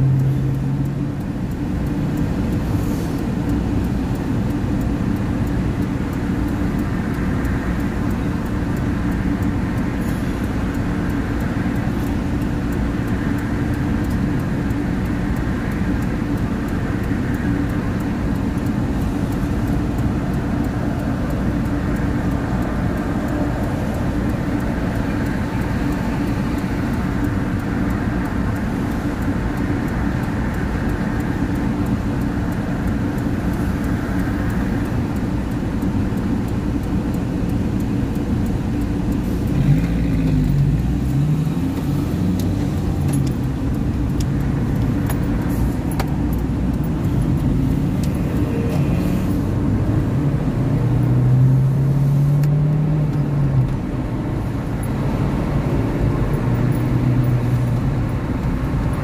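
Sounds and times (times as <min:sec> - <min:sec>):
car cabin low rumble: 0:00.0 - 0:51.8
passing road traffic: 0:00.0 - 0:59.0.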